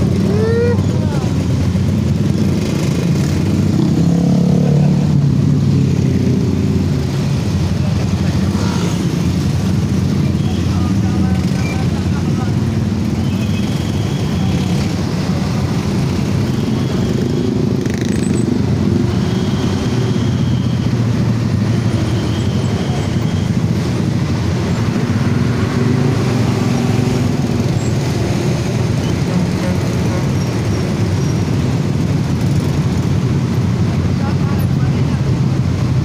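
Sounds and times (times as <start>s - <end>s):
scooter and motorcycle engines: 0.0s - 36.0s.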